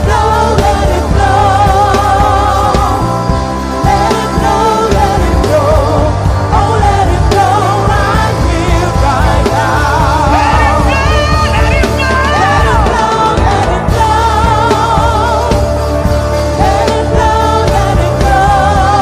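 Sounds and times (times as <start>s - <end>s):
gospel singing: 0.0s - 19.0s
steady bass: 0.0s - 19.0s.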